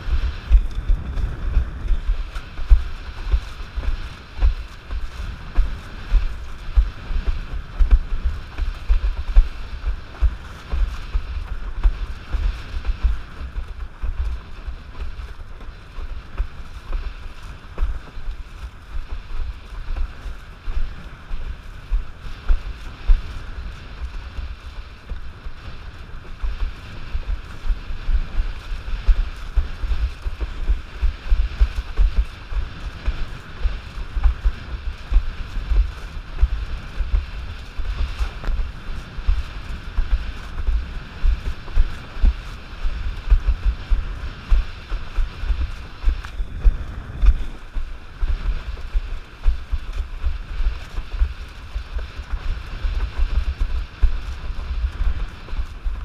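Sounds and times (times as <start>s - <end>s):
board splashing through choppy water: 0.0s - 56.0s
wind buffeting microphone: 0.0s - 56.0s.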